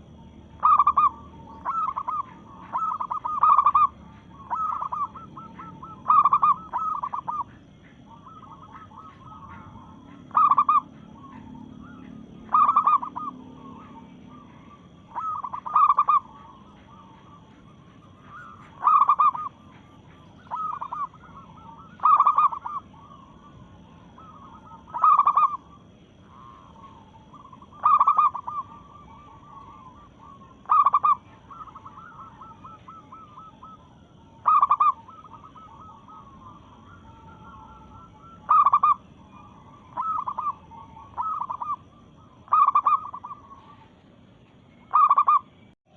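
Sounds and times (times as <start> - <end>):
dove cooing: 0.0 - 44.2, 44.8 - 45.5.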